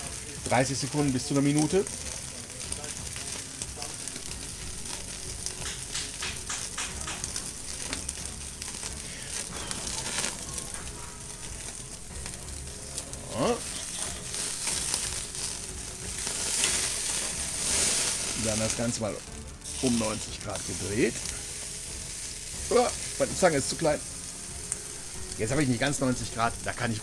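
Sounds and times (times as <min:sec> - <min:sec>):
meat sizzling on a grill: 0:00.0 - 0:27.0.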